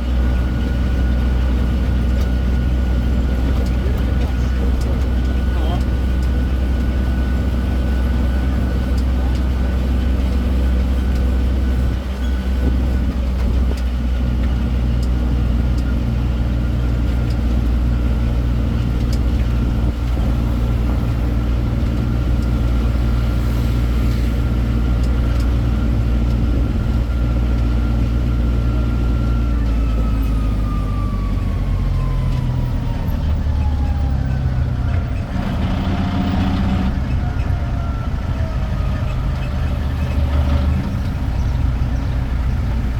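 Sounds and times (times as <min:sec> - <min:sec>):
road train engine running: 0:00.0 - 0:42.9.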